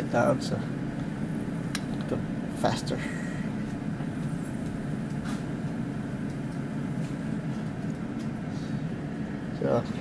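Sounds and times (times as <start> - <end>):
low room rumble: 0.0 - 10.0.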